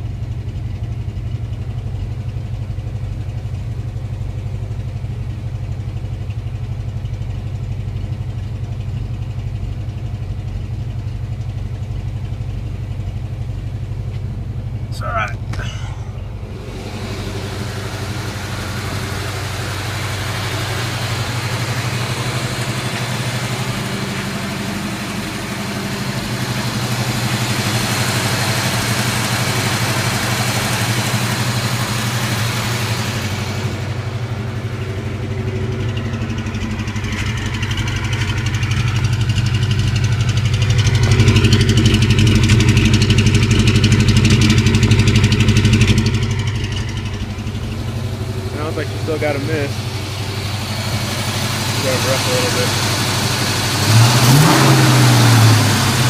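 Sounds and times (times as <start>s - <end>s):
car engine idling rough: 0.0s - 56.0s.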